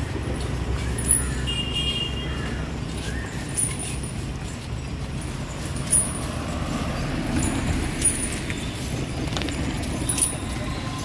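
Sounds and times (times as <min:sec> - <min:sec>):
high metallic jingles: 0:00.0 - 0:11.0.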